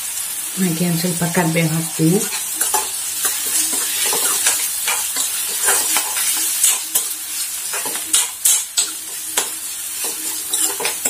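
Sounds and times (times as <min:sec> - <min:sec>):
onions sizzling in hot oil: 0:00.0 - 0:11.0
steel spoon scraping a pan: 0:01.4 - 0:11.0.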